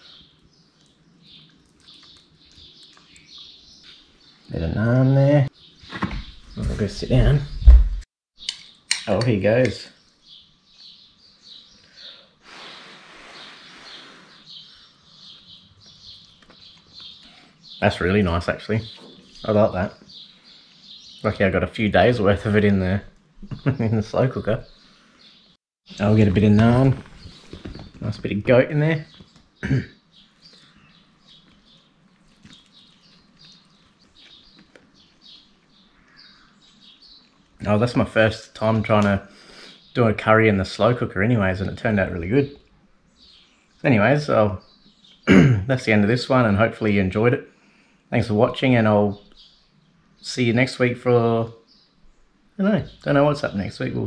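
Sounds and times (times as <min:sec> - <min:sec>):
bird chirping: 0:00.0 - 0:47.3, 0:48.1 - 0:54.0.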